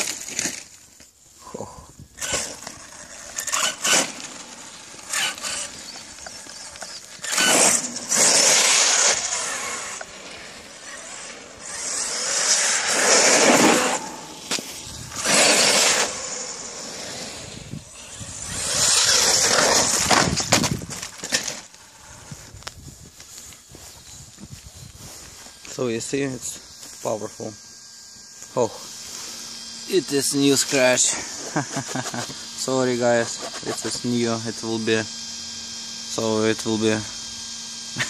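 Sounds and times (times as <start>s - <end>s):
electric motor whining: 1.5s - 38.0s.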